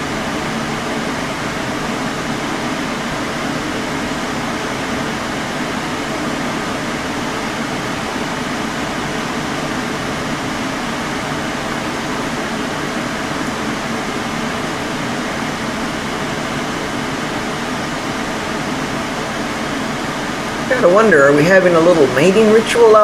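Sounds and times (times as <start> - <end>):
fan-driven machine humming: 0.0 - 23.0.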